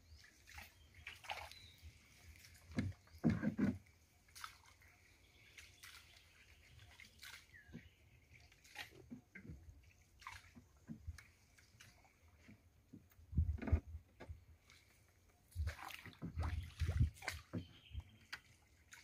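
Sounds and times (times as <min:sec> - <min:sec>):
paddle water drips and splashes: 0:00.0 - 0:19.0.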